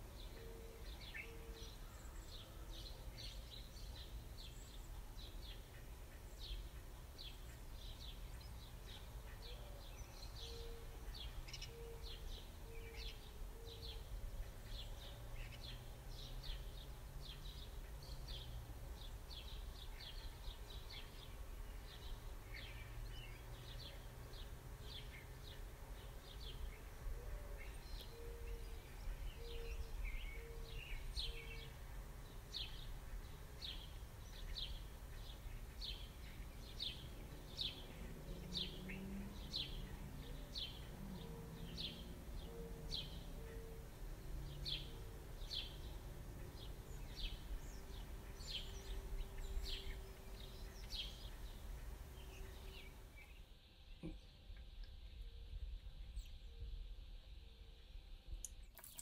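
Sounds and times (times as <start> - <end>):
bird chirping: 0.1 - 56.8.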